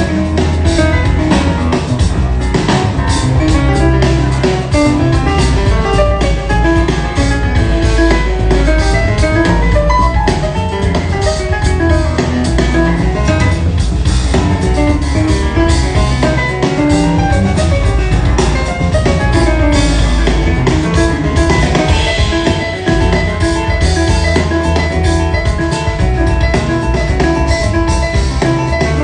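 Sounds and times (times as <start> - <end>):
bass line: 0.0 - 29.0
drum kit: 0.0 - 29.0
fast jazz piano runs: 0.0 - 29.0.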